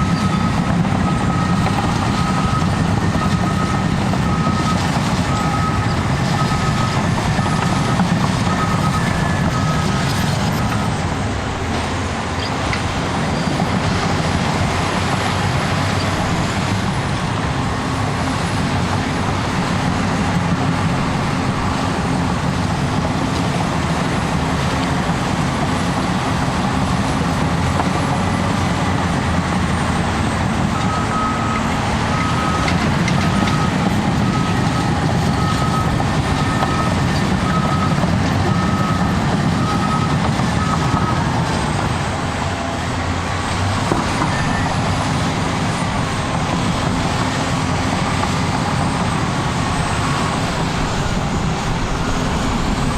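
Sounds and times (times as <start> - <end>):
bulldozer diesel engine: 0.0 - 52.9.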